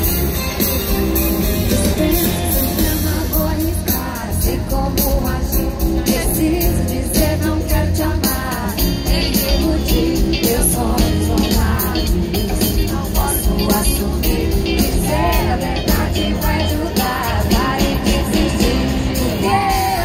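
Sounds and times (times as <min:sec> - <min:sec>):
electric guitar: 0:00.0 - 0:20.0
steady drum beat: 0:00.0 - 0:20.0
lead singer: 0:01.3 - 0:20.0.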